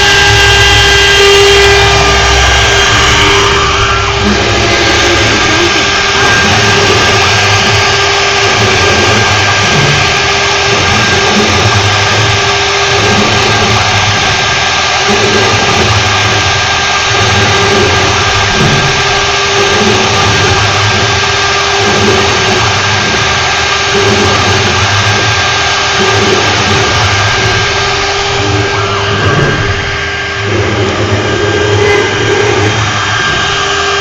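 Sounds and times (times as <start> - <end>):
lathe cutting wood: 0.0 - 34.0.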